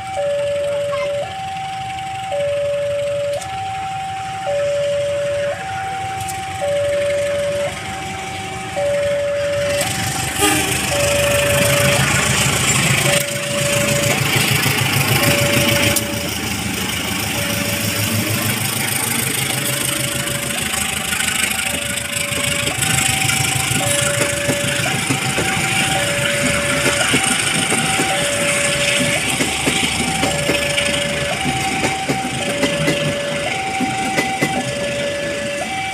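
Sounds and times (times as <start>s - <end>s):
coaches rumbling along rails: 0.0s - 35.9s
diesel locomotive engine: 0.0s - 35.9s
two-tone crossing alarm: 0.0s - 35.9s.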